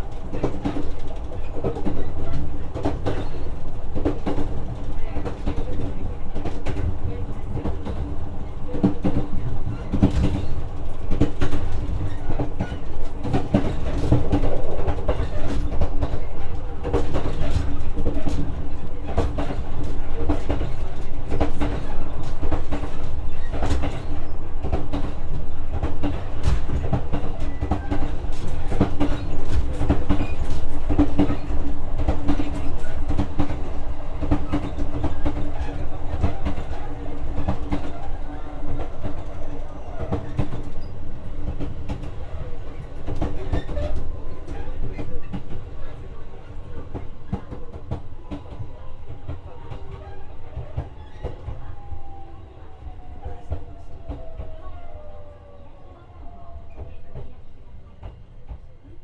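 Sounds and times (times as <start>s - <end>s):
train interior rumble and hum: 0.0s - 59.0s.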